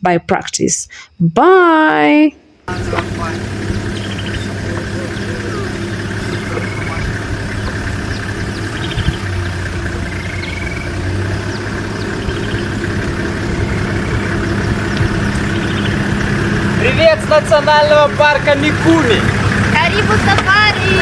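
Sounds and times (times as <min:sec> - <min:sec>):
vehicle engine idling: 0:02.6 - 0:21.0.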